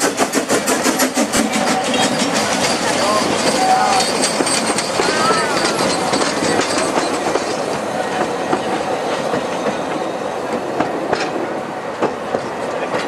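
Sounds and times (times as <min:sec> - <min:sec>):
train rumble: 0:00.0 - 0:13.0
train wheels clicking on rails: 0:00.0 - 0:13.0.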